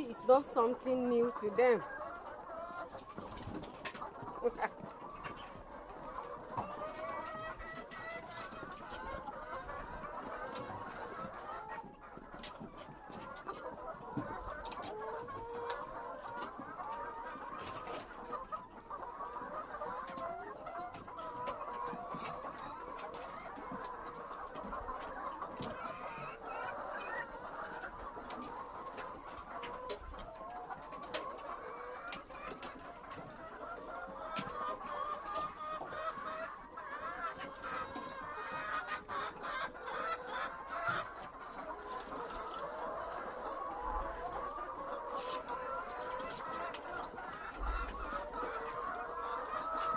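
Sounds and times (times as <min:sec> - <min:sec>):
hens clucking and chattering: 0:00.0 - 0:49.9.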